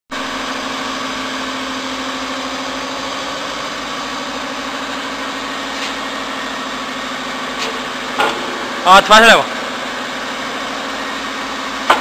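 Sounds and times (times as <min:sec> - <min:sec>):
hydraulic pump motor humming: 0:00.1 - 0:12.0.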